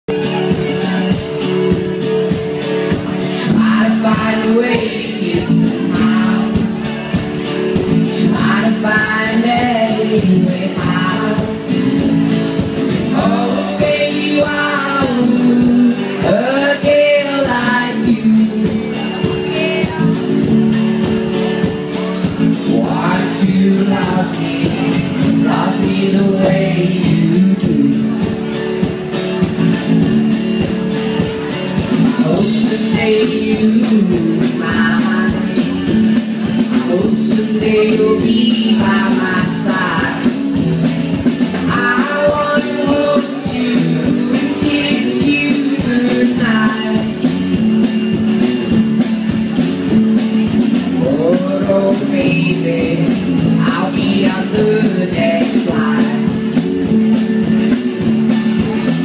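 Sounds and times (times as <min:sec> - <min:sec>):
man singing: 0:00.1 - 0:20.8, 0:21.6 - 0:28.6, 0:31.7 - 0:57.7
strummed acoustic guitar: 0:00.1 - 0:59.0.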